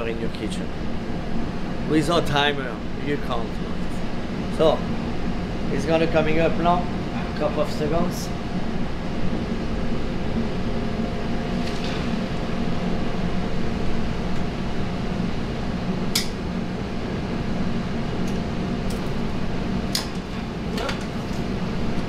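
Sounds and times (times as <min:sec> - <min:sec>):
kitchen ventilation hum: 0:00.0 - 0:22.0.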